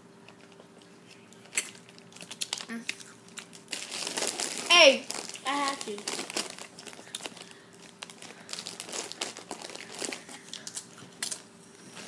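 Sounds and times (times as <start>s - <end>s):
foil chip bag crinkling: 1.4s - 11.5s.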